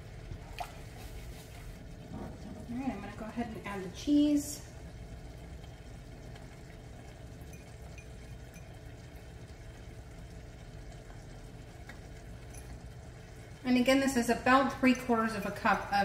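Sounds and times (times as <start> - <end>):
sauce bubbling in a pan: 0.0 - 16.0.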